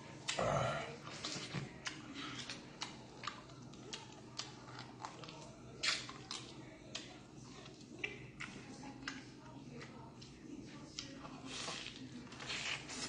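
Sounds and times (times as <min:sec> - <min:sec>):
wet chewing and biting: 0:01.2 - 0:13.0.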